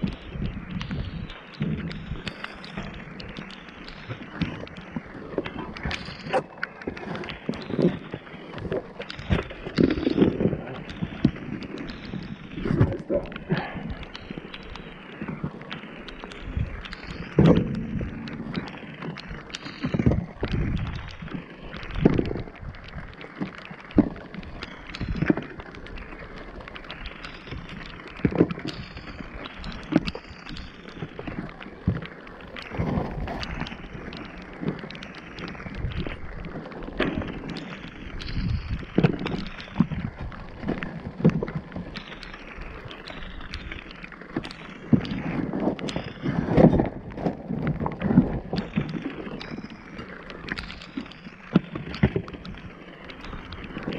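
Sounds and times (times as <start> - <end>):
rain rushing: 0.0 - 53.9.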